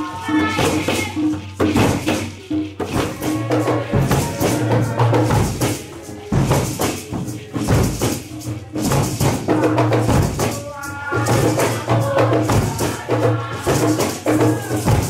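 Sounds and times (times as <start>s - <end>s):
hand percussion: 0.0s - 15.0s.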